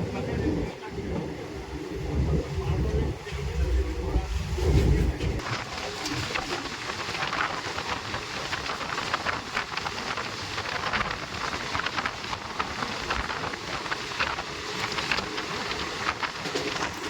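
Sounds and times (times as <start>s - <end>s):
train rushing with rattles: 0.0s - 17.0s.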